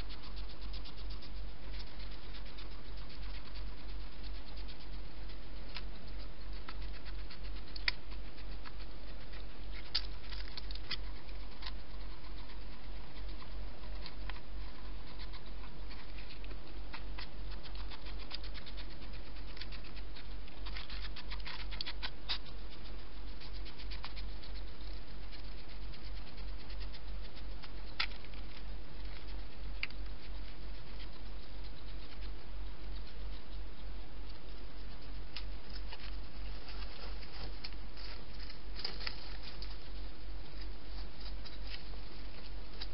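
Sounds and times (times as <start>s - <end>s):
hedgehog chewing: 0.0s - 42.9s
steady low hum: 0.0s - 42.9s.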